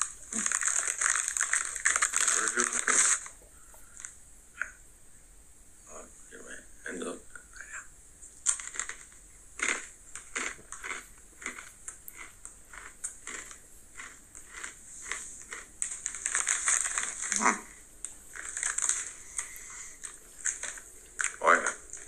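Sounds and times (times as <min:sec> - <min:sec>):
person chewing crunchy snacks: 0:00.0 - 0:04.2, 0:08.4 - 0:22.0.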